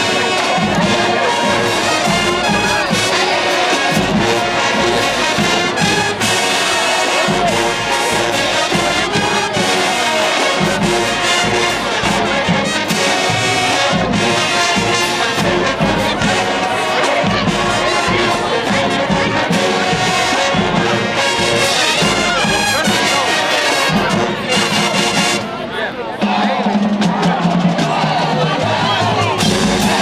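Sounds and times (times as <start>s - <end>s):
brass section playing: 0.0s - 26.6s, 28.6s - 30.0s
marching drumline: 0.0s - 30.0s.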